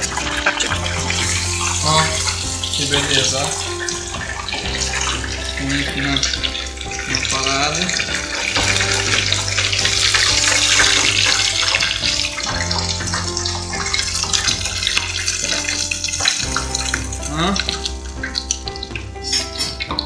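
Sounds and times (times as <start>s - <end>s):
background music with held notes: 0.0s - 20.0s
hot oil sizzling: 0.0s - 20.0s.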